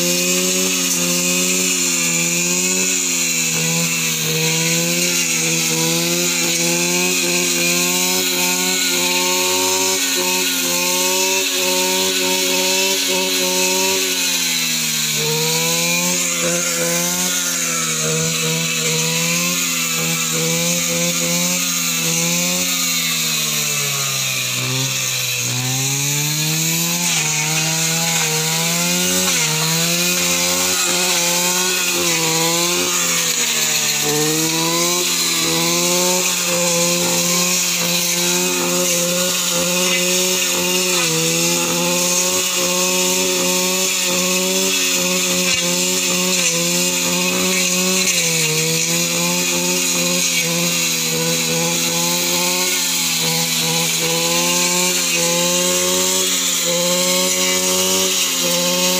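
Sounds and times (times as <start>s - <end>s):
blade cutting through grass: 0.0s - 58.9s
brush cutter engine running: 0.0s - 58.9s.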